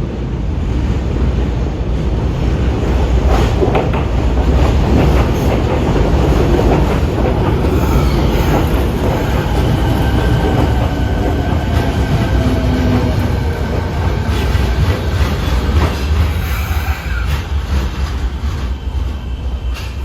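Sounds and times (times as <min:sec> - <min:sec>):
train rumbling with wheel clatter: 0:00.0 - 0:20.0.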